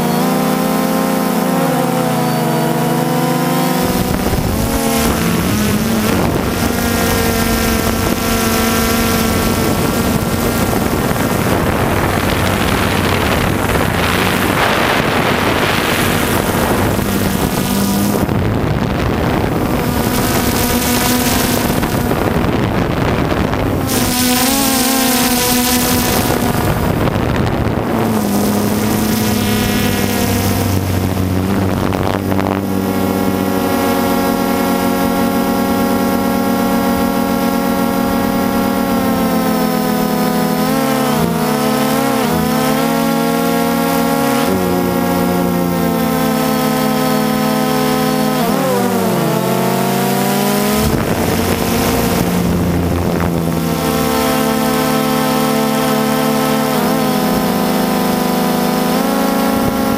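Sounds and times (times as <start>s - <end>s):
drone propellers buzzing: 0.0s - 59.9s
wind noise on microphone: 0.0s - 59.9s.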